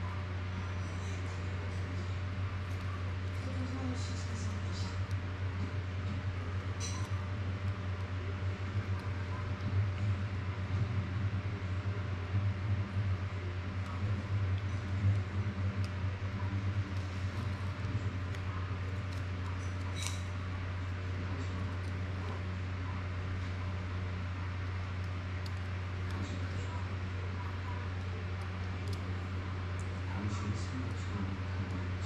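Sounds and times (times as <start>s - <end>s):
low mechanical hum with hiss: 0.0s - 32.0s.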